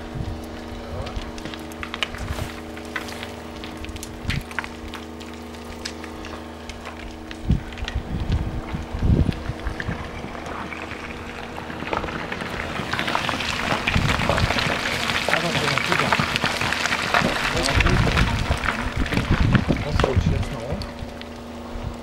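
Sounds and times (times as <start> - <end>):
rocks tumbling down slope: 0.1 - 22.0
heavy rock thuds: 1.2 - 20.6
stones clacking: 1.2 - 21.4.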